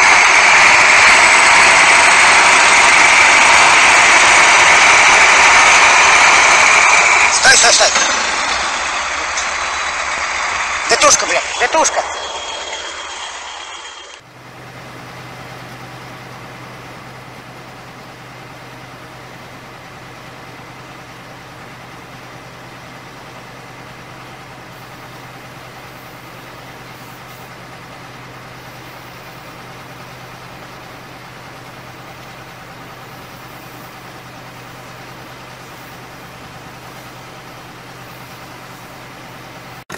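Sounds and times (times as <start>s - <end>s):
vehicle engine idling: 0.0s - 13.3s, 14.2s - 39.9s.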